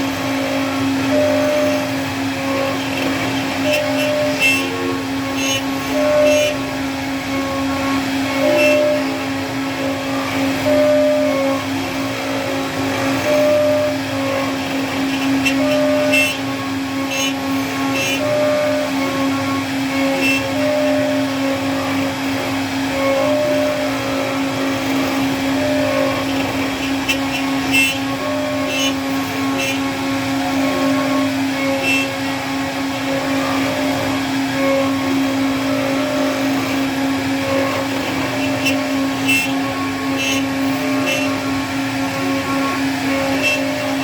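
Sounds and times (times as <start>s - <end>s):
router spindle whine: 0.0s - 44.0s
stepper motor tones: 0.0s - 44.0s.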